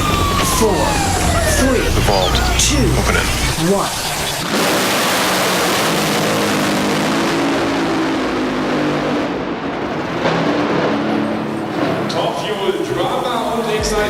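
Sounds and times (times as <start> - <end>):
dragster engine crackling: 0.0 - 14.0.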